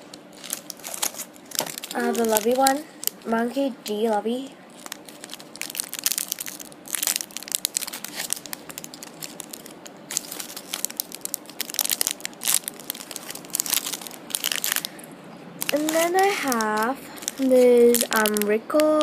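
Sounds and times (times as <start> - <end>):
plastic wrappers crinkling: 0.0 - 19.0.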